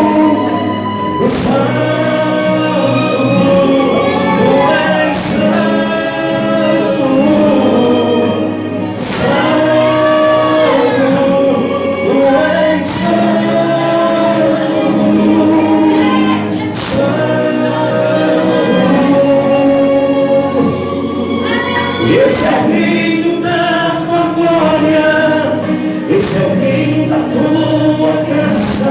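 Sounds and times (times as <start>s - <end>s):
gospel choir singing: 0.0s - 28.9s.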